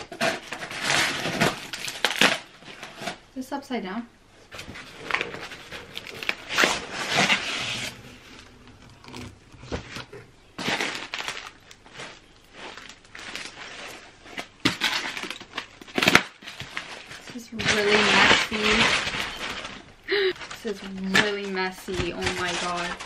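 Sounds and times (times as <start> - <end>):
styrofoam blocks scraping: 0.0 - 3.2, 4.5 - 23.0
cardboard flaps rustling: 4.5 - 23.0.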